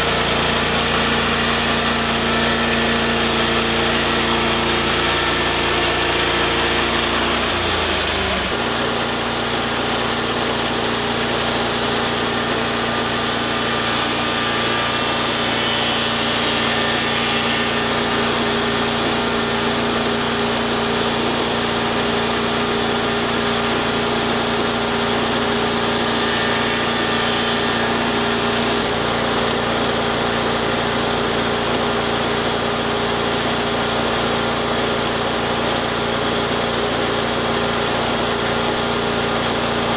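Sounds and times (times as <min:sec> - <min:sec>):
bandsaw mill engine running: 0:00.0 - 0:39.9.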